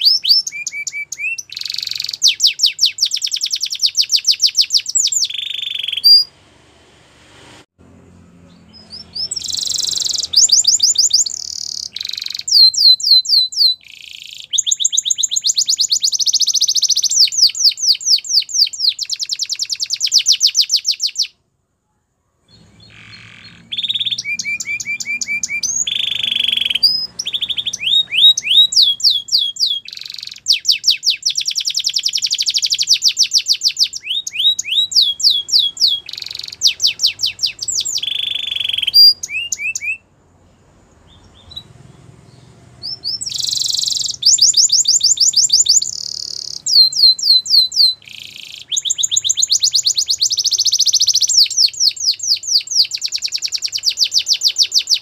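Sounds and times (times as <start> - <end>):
canary singing trills: 0.0 - 6.4, 8.0 - 21.4, 22.4 - 55.0.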